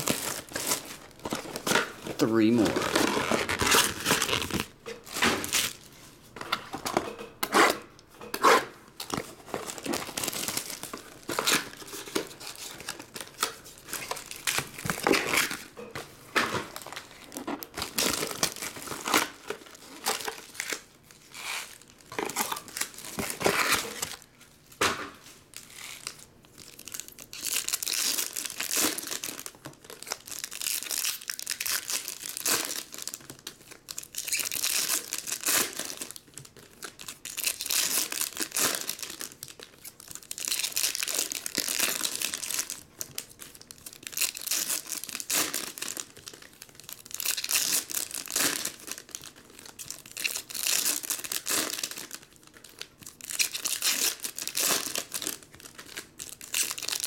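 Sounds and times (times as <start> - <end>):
plastic wrap crinkling and tearing: 0.0 - 6.0, 9.0 - 15.8, 16.4 - 24.4, 25.2 - 57.0.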